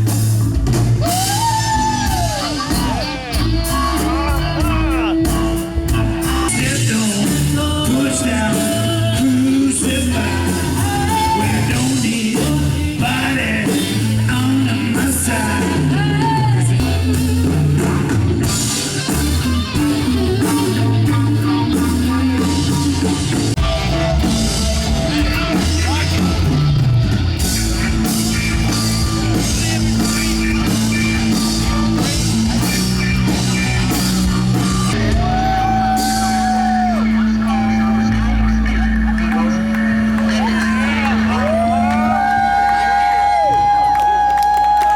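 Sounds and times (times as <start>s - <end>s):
live rock song with vocals: 0.0s - 44.9s.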